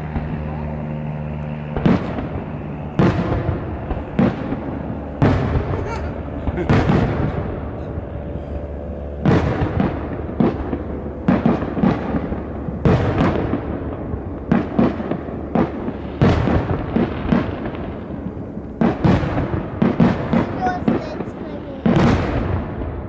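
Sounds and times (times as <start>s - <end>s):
low rumble: 0.0s - 20.2s
fireworks bursting with bangs: 0.0s - 23.0s.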